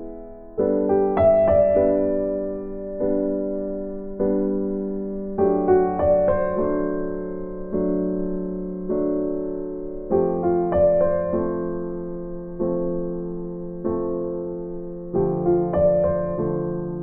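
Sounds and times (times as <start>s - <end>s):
soft electric piano chords: 0.0s - 17.0s.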